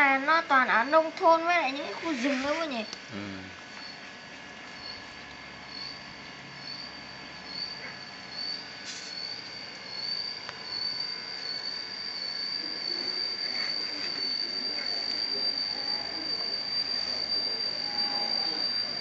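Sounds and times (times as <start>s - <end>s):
high-pitched insect trill: 0.0s - 19.0s.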